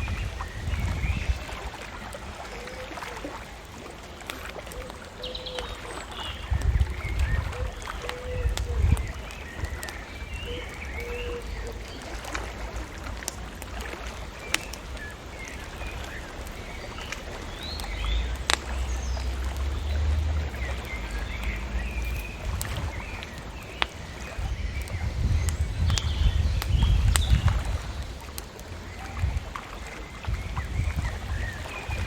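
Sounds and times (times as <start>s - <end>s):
birds chirping: 0.0s - 32.0s
bonfire crackling and popping: 0.0s - 32.0s
low uneven rumble: 0.0s - 32.0s.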